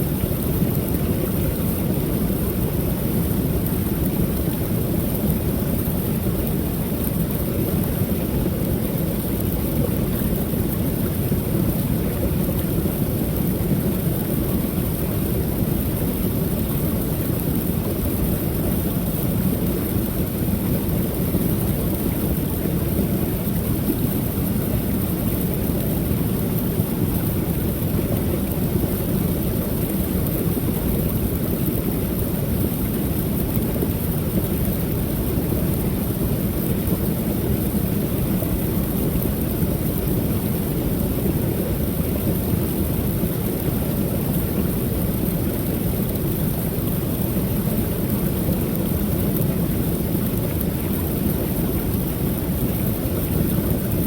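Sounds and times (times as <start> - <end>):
waterfall pouring and splashing: 0.1 - 54.0.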